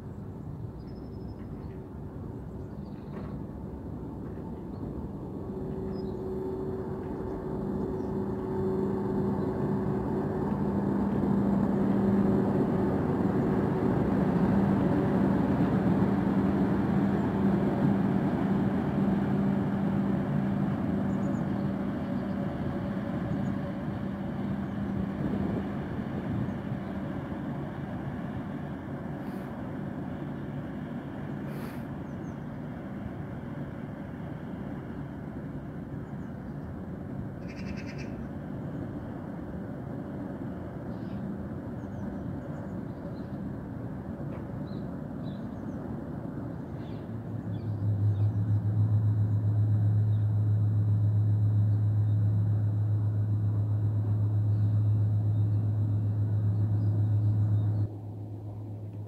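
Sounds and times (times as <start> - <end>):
barge diesel engine hum: 0.0 - 59.0.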